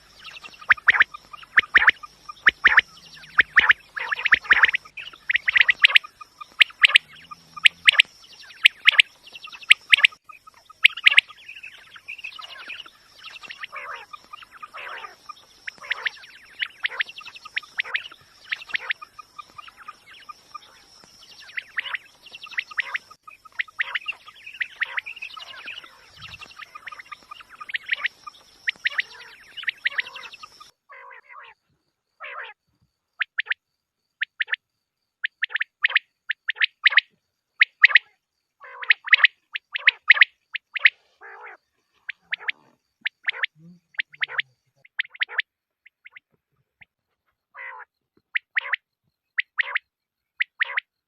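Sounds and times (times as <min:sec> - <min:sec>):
quail calling: 0:00.0 - 0:31.6, 0:32.2 - 0:32.6, 0:33.2 - 0:33.6, 0:35.2 - 0:46.9, 0:47.5 - 0:48.8, 0:49.4 - 0:50.9.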